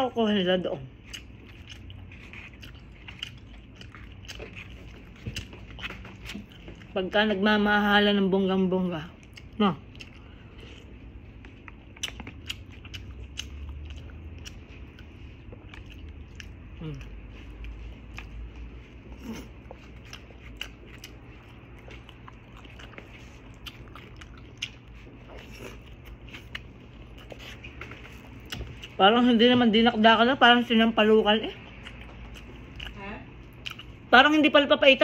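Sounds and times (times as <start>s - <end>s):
low steady hum: 0.0s - 35.0s
people chewing food: 0.0s - 35.0s.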